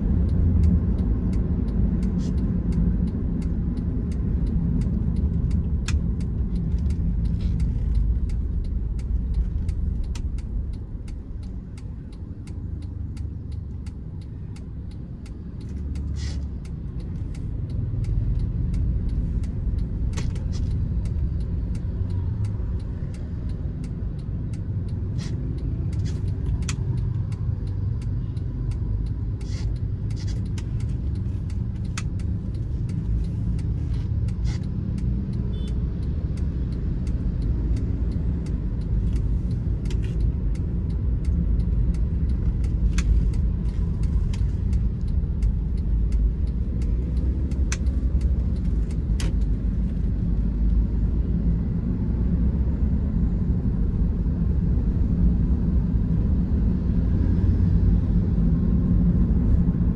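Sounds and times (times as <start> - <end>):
car cabin engine and road rumble: 0.0 - 59.9.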